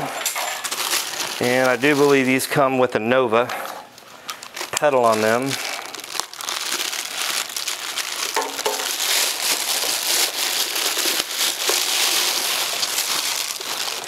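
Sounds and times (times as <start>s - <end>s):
plastic bag crinkling: 0.4s - 2.6s, 4.0s - 14.0s.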